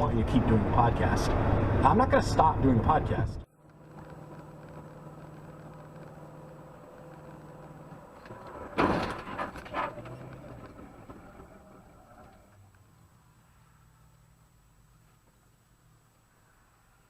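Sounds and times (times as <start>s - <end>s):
car interior hum: 0.1s - 17.0s.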